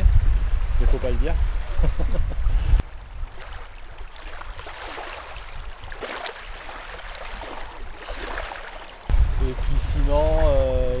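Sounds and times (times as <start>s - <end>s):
small waves lapping on shore: 0.4s - 11.0s.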